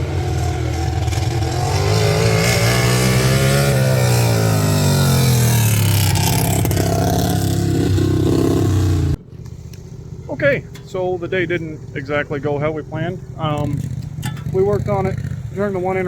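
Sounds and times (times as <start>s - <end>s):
lawn tractor engine revving: 0.0s - 16.0s.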